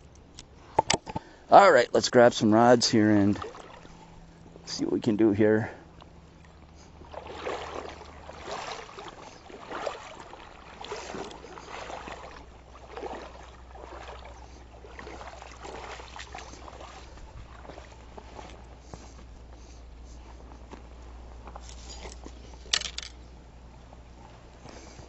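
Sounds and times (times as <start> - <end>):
water swishing and splashing: 2.1 - 23.1.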